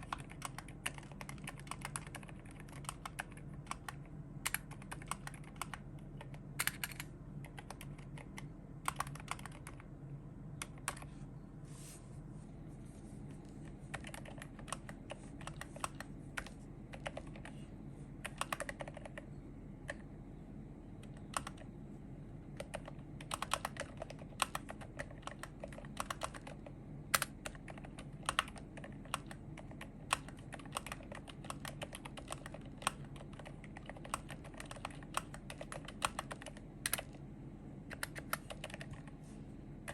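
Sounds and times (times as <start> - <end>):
typing on mechanical keyboard: 0.0 - 9.9, 10.6 - 11.1, 13.9 - 17.6, 18.2 - 20.0, 21.0 - 21.7, 22.6 - 37.2, 37.9 - 39.2
steady low hum: 0.0 - 39.9.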